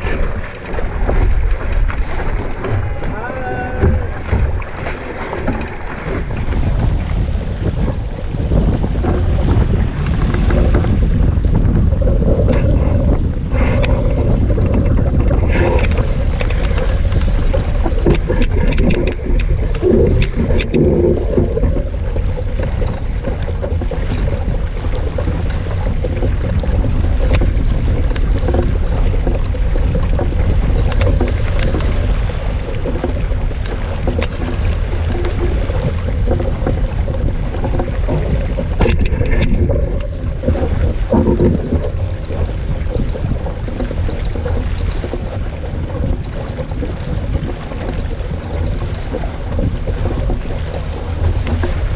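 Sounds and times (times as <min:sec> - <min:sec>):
water rushing along a hull: 0:00.0 - 0:51.9
water splashing against hull: 0:00.0 - 0:51.9
wind blasting the microphone: 0:00.0 - 0:51.9.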